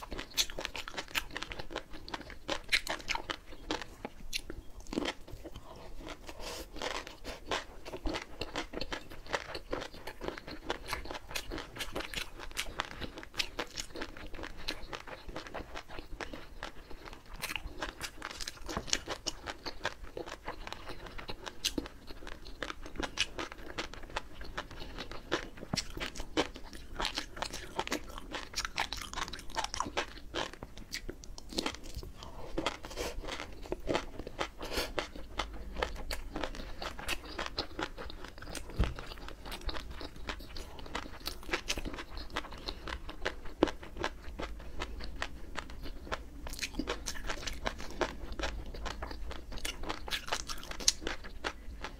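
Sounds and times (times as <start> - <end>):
fish roe crunching and popping: 0.0 - 51.9.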